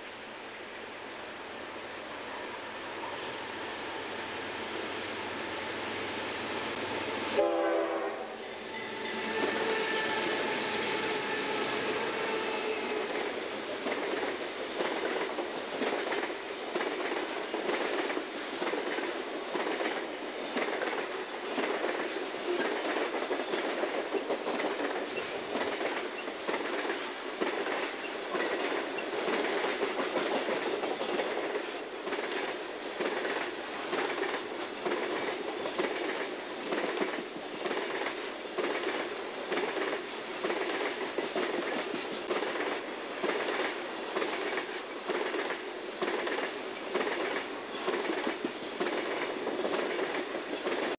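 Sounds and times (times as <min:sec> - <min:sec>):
train wheels rumbling on rail: 0:01.2 - 0:50.9.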